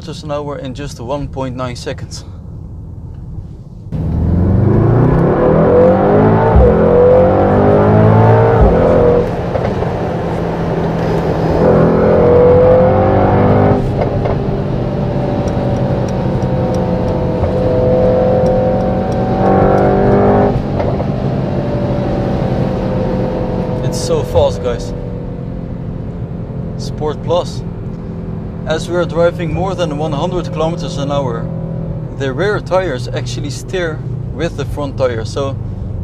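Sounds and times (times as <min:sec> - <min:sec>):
car engine accelerating hard: 0:03.9 - 0:36.0.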